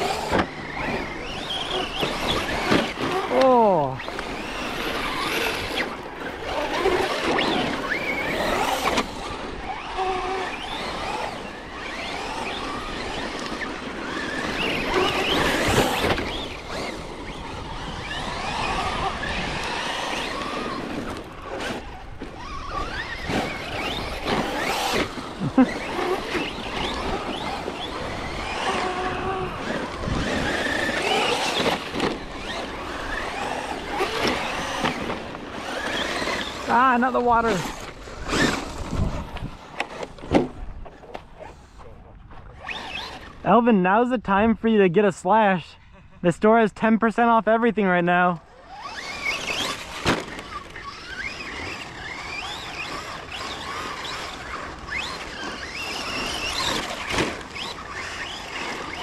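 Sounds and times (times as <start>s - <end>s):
toy truck electric motors whining: 0.0s - 43.6s, 48.4s - 59.0s.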